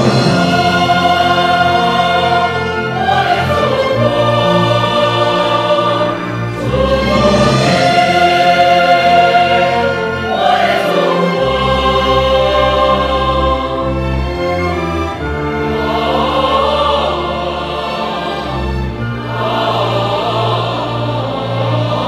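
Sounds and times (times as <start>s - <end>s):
choir singing: 0.0s - 22.0s
symphony orchestra: 0.0s - 22.0s.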